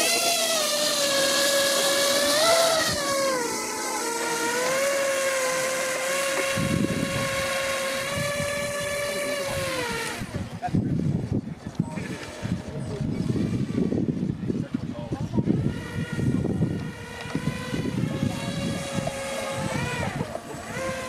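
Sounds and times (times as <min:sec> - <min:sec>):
electric propellers whining: 0:00.0 - 0:21.0.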